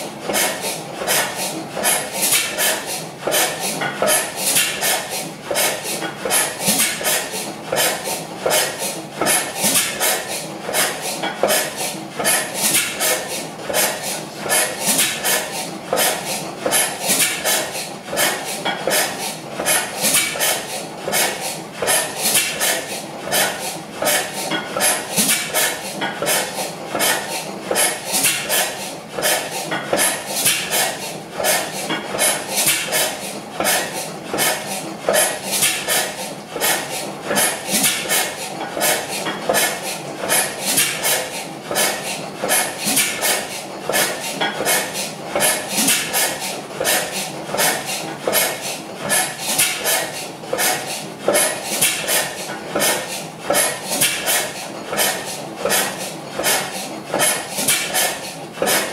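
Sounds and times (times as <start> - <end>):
stationary gas engine running: 0.0 - 58.9.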